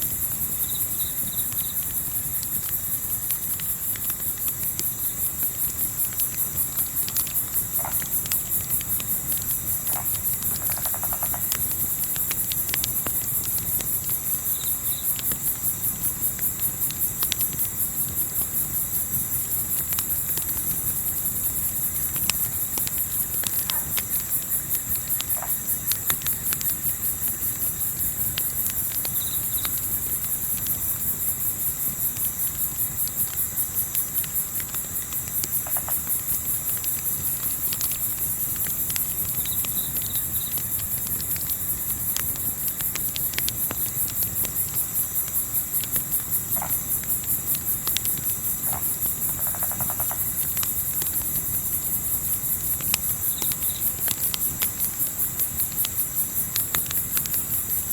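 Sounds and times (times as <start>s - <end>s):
campfire crackling: 0.0s - 57.9s
crickets trilling: 0.0s - 57.9s.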